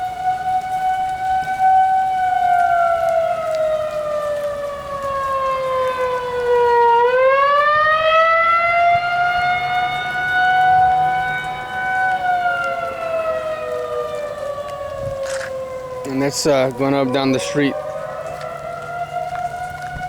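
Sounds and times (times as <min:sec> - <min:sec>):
tornado warning siren: 0:00.0 - 0:20.0.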